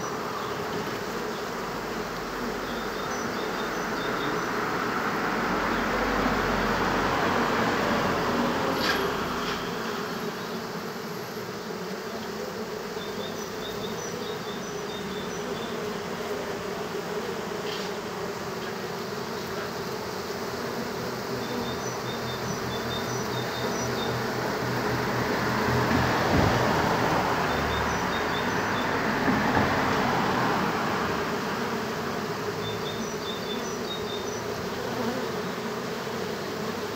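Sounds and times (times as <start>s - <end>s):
honey bees buzzing: 0.0s - 36.9s.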